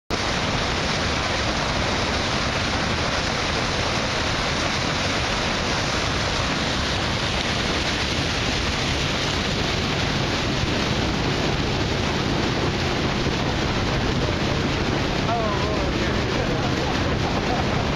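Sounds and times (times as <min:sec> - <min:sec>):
low hum: 0:00.1 - 0:17.9
water splashing along boat hull: 0:00.1 - 0:17.9.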